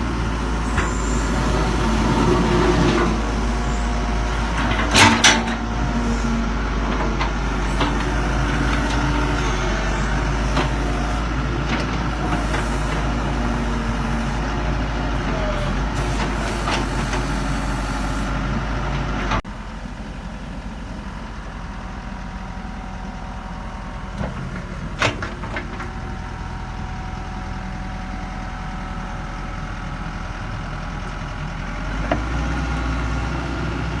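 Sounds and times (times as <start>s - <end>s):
excavator diesel engine running: 0.0s - 17.9s, 19.4s - 34.0s.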